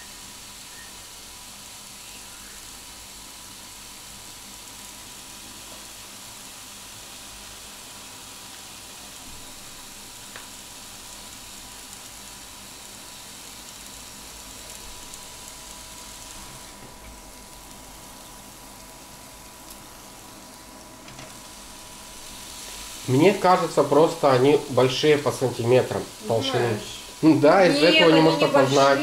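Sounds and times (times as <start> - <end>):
meat sizzling on contact grill: 0.0 - 29.0.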